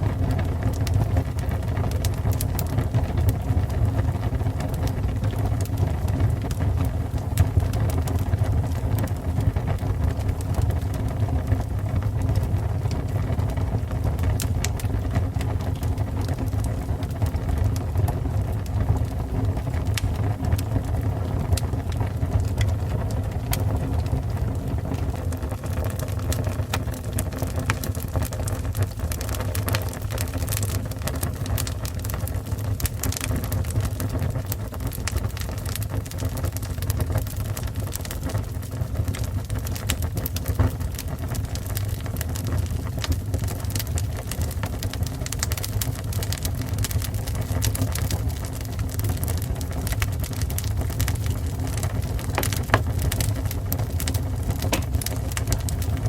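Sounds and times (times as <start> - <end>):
fire crackling and popping: 0.0 - 56.0
low roar of flames: 0.0 - 56.0.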